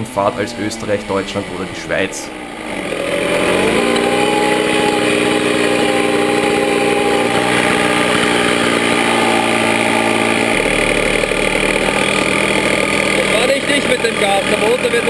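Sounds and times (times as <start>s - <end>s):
deeper hum: 0.0s - 15.0s
moped engine idling: 0.0s - 15.0s.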